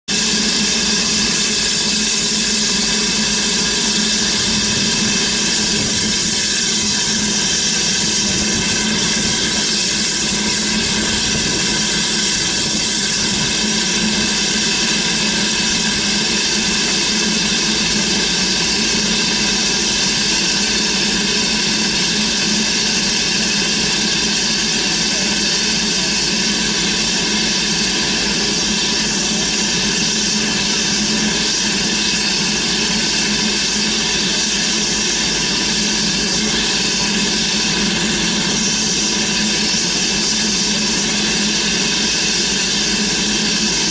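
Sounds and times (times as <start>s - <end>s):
steam hissing: 0.1s - 43.9s.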